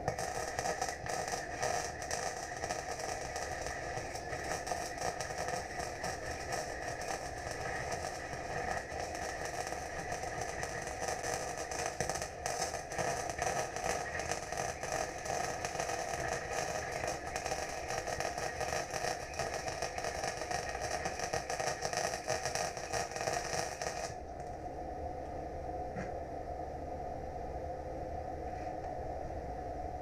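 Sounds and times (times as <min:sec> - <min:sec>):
welding arc crackling: 0:00.0 - 0:24.5.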